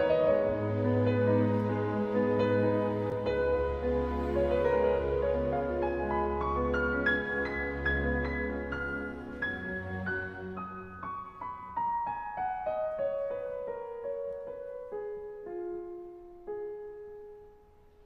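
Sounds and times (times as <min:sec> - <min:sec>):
soft slow piano melody: 0:00.0 - 0:18.0.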